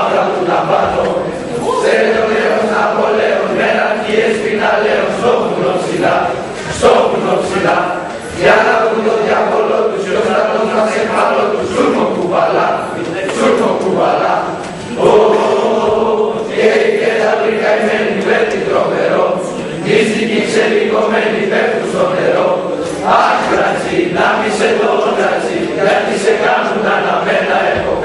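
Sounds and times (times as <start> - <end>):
boys choir singing: 0.0 - 28.0.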